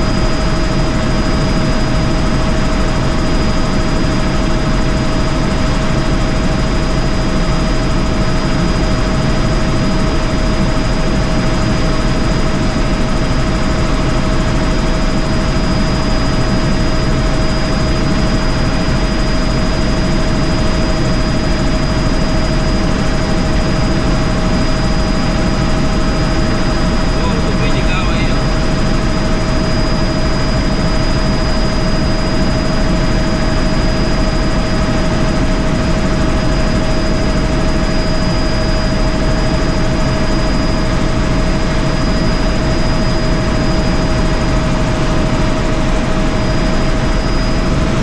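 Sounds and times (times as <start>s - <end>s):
helicopter rotor and engine noise: 0.0s - 48.0s
high whine: 0.0s - 48.0s.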